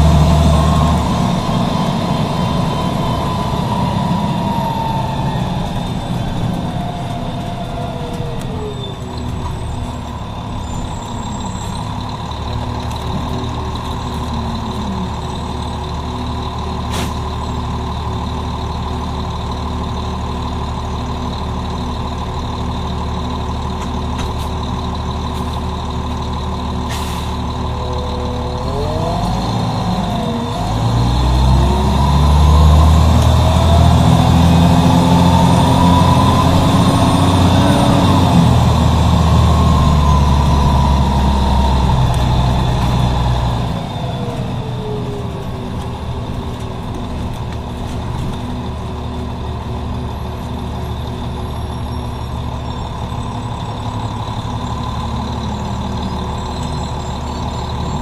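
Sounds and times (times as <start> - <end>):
diesel bus engine idling and revving: 0.0 - 58.0.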